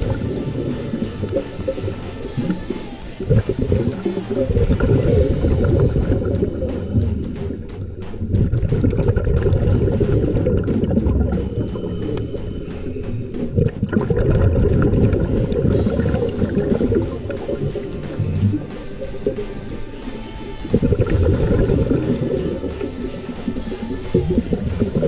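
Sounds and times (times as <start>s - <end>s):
sharp underwater clicks: 0.0s - 25.0s
underwater rush of water: 0.0s - 25.0s.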